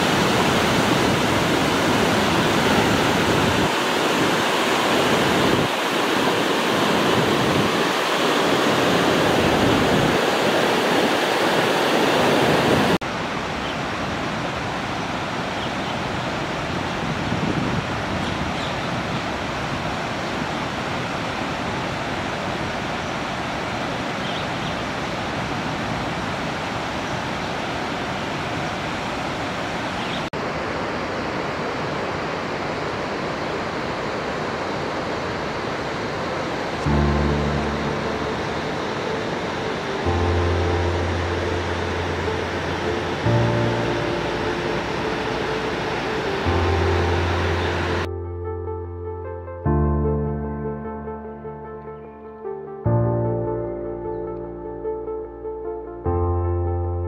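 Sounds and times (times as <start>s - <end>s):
flowing water rushing: 0.0s - 48.1s.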